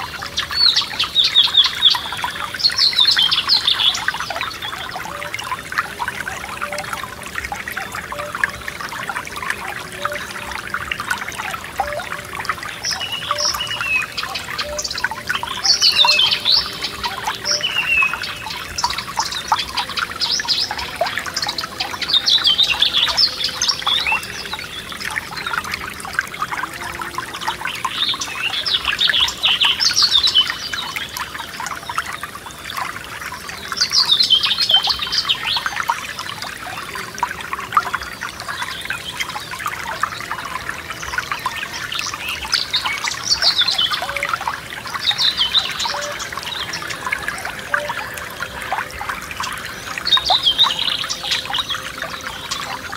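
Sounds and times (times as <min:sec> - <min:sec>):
songbirds chirping: 0:00.0 - 0:52.9
stream trickling and gurgling: 0:00.0 - 0:52.9.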